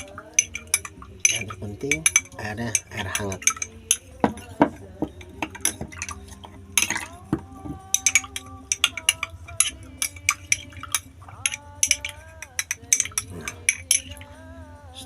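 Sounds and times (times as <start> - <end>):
spoon clinking against glass: 0.0 - 14.4.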